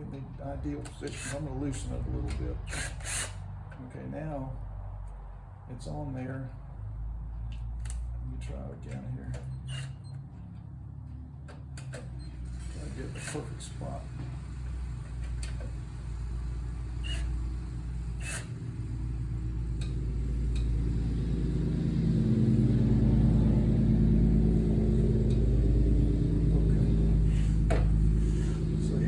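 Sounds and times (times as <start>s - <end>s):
low engine-like hum: 0.0s - 29.0s.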